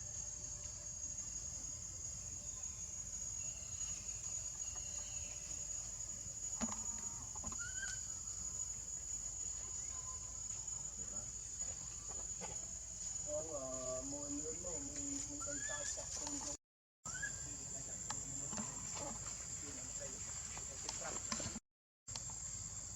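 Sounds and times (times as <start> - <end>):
high-pitched insect drone: 0.0 - 21.1.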